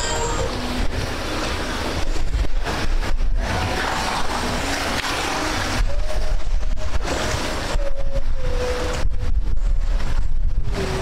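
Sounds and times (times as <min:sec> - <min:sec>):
river water rushing and splashing: 0:00.0 - 0:09.0
wind gusting on microphone: 0:00.0 - 0:11.0.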